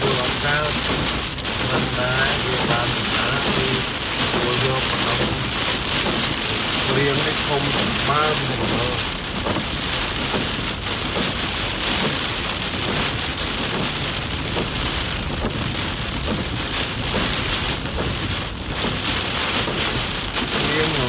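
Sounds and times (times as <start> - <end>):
heavy rain on car windshield: 0.0 - 21.0.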